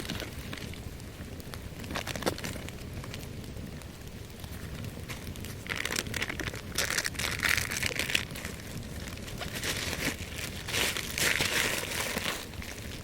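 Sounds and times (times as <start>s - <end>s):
dry kindling crackling in fire: 0.0s - 13.0s.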